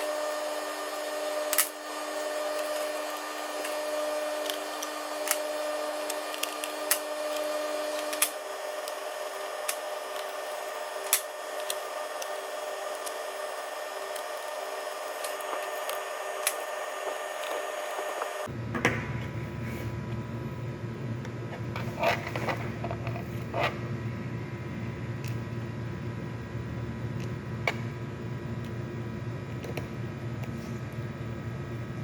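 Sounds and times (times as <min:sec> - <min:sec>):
electrical whine and hiss: 0:00.0 - 0:32.0.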